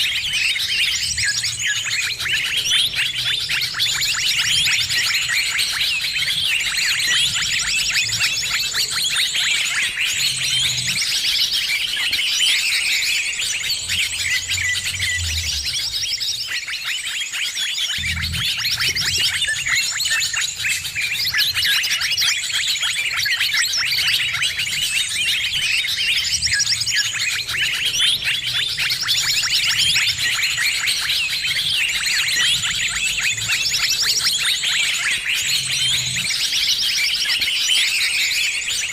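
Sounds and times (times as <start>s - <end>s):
many small birds chirping: 0.0s - 38.9s.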